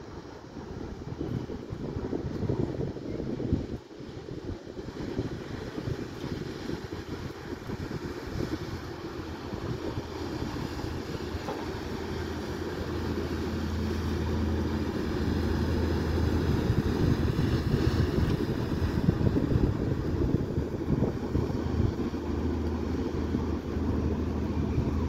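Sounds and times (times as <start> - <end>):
boat engine hum: 0.0 - 25.0
wind buffeting microphone: 0.0 - 25.0
rush of bow wave: 4.3 - 25.0.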